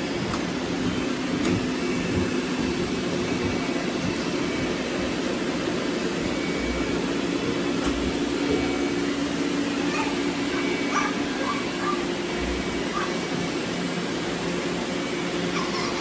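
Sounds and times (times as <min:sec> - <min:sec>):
robot vacuums whirring: 0:00.0 - 0:16.0.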